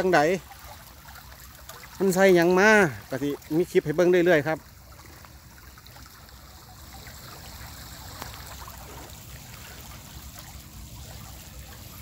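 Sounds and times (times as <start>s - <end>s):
water rushing into a pond: 0.0s - 12.0s.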